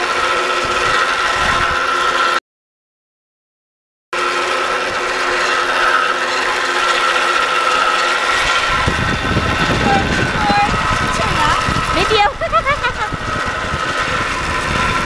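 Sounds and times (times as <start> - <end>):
cable car whirring grind: 0.0 - 2.4, 4.2 - 15.0.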